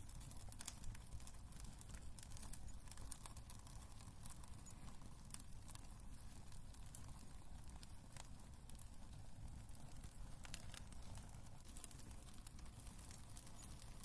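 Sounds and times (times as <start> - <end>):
low steady rumble: 0.0 - 14.0
wood fire crackling and popping: 0.0 - 14.0.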